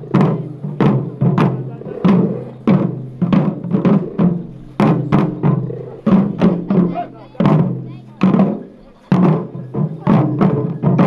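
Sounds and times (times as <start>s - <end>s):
drum struck with sticks: 0.0s - 11.0s.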